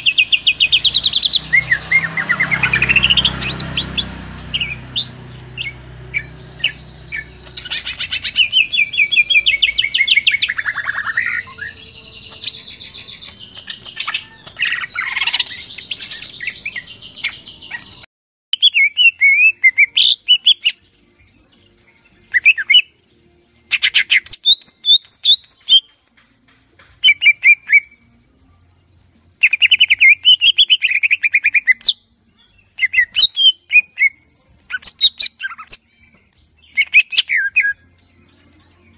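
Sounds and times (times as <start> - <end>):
bird singing whistles and trills: 0.0 - 18.0, 18.6 - 20.9, 22.2 - 22.9, 23.7 - 25.9, 27.0 - 28.0, 29.4 - 38.3.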